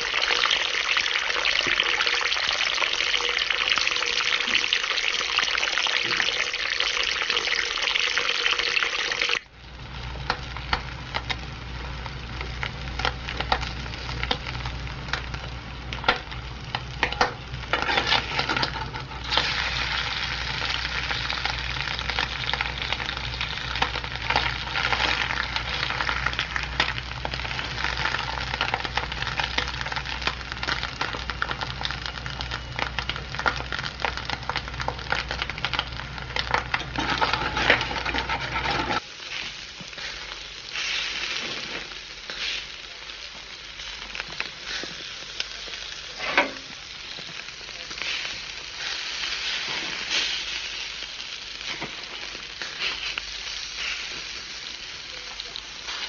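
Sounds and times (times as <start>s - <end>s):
food sizzling in a hot pan: 0.0s - 56.0s.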